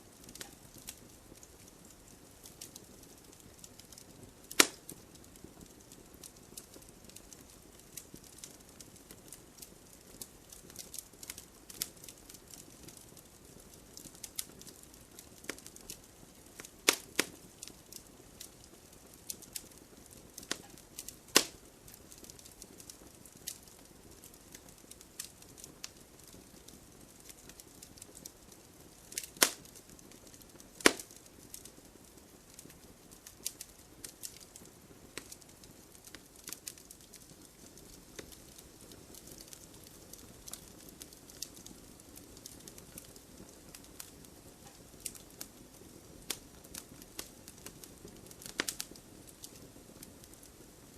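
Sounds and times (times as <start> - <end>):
fire popping: 0.0 - 50.9
wood fire crackling: 0.0 - 50.9.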